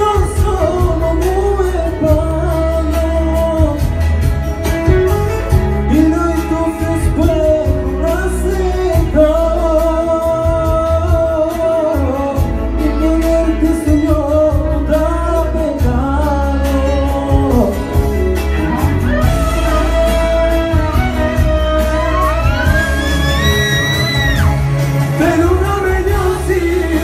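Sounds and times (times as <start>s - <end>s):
man singing into a microphone: 0.0s - 4.4s, 5.5s - 24.4s, 25.0s - 27.0s
amplified backing music with heavy bass: 0.0s - 27.0s.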